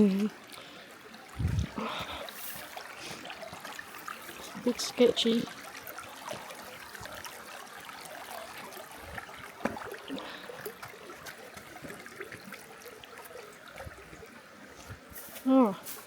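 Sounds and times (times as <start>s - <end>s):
water flowing over rocks: 0.0s - 16.0s.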